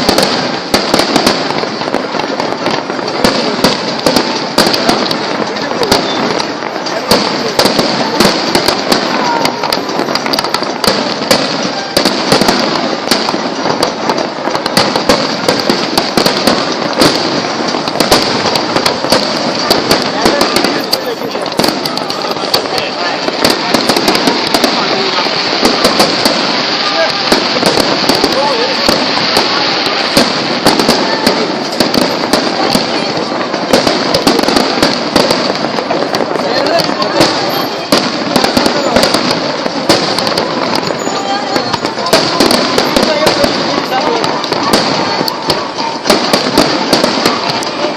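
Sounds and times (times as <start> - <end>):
firecrackers crackling: 0.0 - 47.9.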